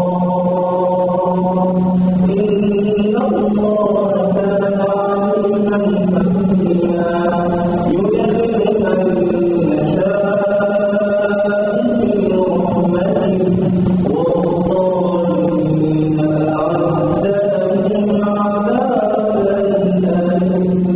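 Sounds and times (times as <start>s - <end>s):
man chanting melodic recitation: 0.0s - 20.9s.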